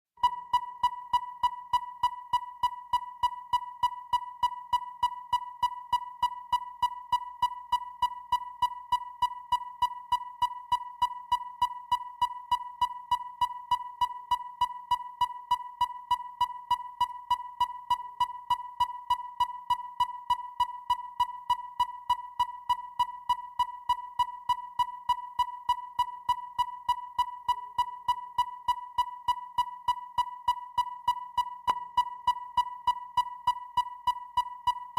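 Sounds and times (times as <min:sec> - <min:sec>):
steady high-pitched tone: 0:00.2 - 0:34.9.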